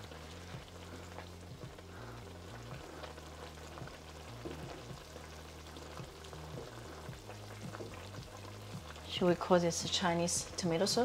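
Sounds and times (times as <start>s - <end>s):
sauce sizzling and bubbling: 0.0s - 11.0s.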